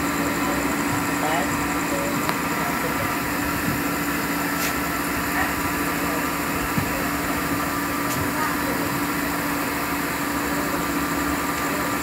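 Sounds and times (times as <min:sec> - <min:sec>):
train drone: 0:00.0 - 0:12.0.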